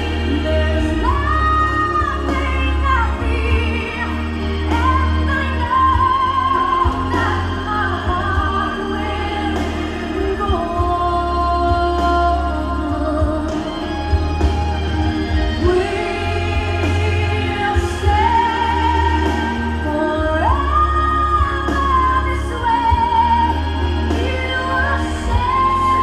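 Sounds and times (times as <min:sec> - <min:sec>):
steady low bass: 0:00.0 - 0:26.0.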